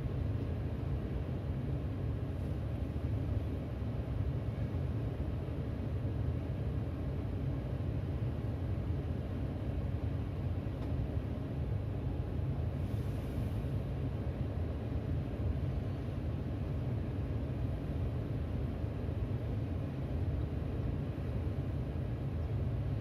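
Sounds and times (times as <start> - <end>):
city background rumble: 0.0 - 23.0.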